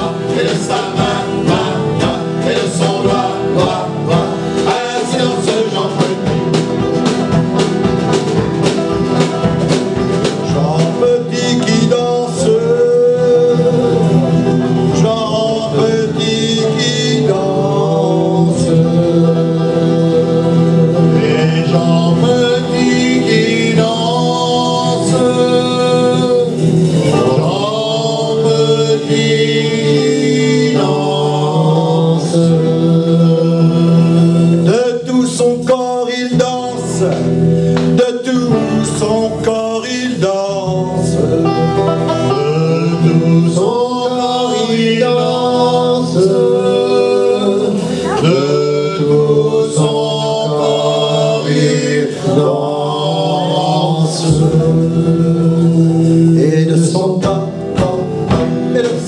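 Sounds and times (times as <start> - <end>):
acoustic guitar: 0.0 - 59.0
banjo: 0.0 - 59.0
double bass: 0.0 - 59.0
drum kit: 0.0 - 59.0
group singing: 0.0 - 59.0.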